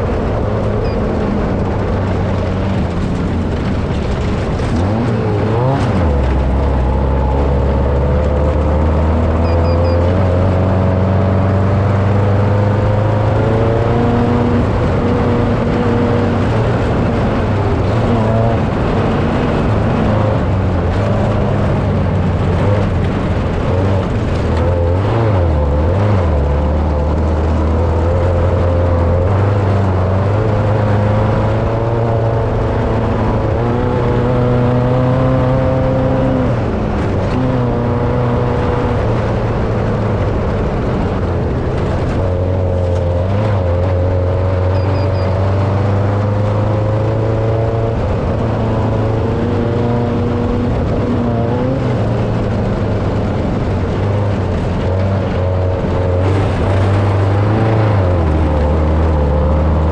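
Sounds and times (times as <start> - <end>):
race vehicle engine running: 0.0 - 59.9.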